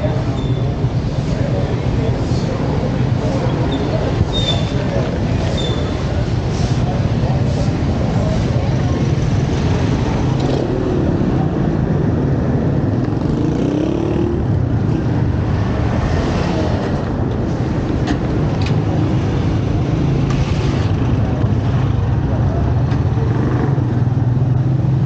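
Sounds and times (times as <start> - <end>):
traffic: 0.0 - 25.0.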